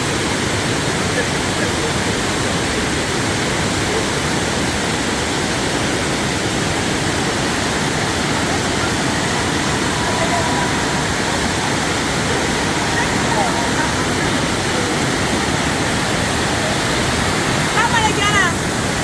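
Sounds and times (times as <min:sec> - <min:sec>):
water rushing over waterfall: 0:00.0 - 0:19.0.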